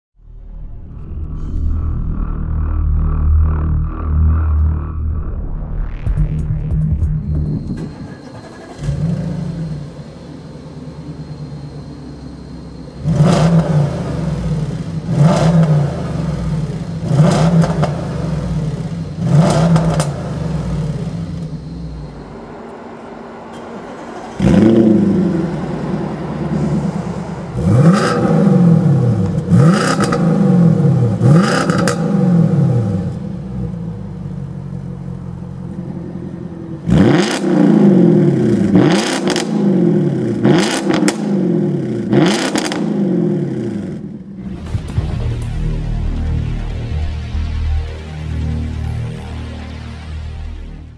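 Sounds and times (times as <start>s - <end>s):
car engine idling and revving: 0.2s - 50.9s.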